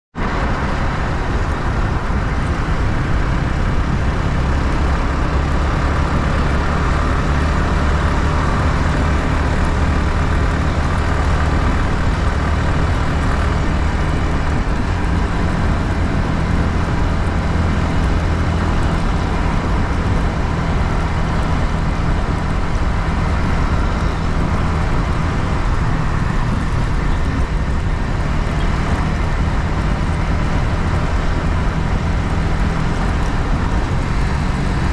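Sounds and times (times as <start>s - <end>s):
road noise: 0.1s - 34.9s
motorcycle engine running: 0.2s - 34.9s
wind noise: 0.2s - 34.9s.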